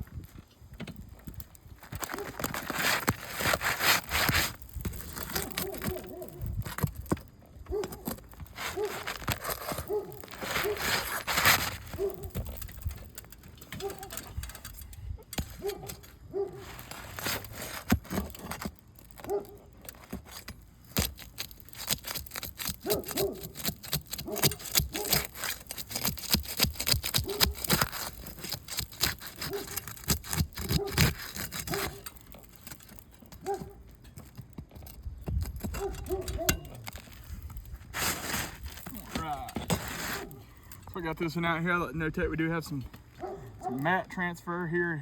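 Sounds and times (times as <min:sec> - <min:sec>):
metal tools tapping and scraping shingle: 0:00.0 - 0:44.8
short squeaks: 0:01.0 - 0:41.0.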